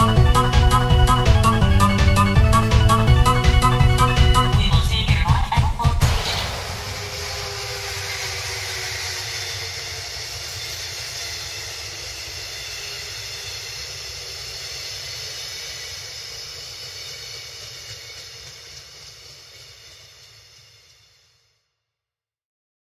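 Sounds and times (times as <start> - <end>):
train wheels rushing on rails: 0.0 - 21.5.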